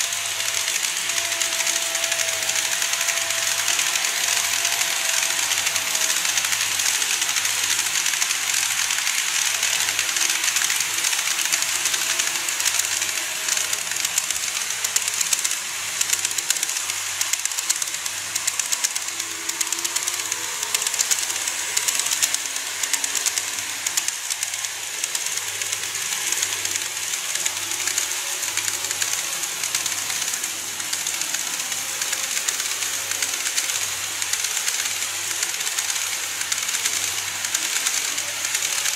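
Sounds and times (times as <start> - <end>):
model trains running on track: 0.0 - 38.9
wheels clicking over rail joints: 0.0 - 38.9.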